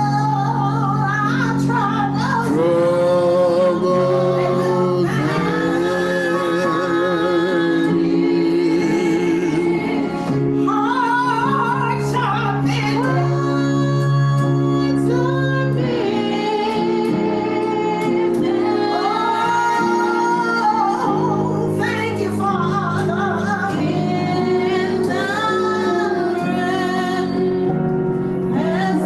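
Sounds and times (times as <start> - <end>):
instrumental backing: 0.0 - 29.0
person singing with vibrato: 0.0 - 29.0.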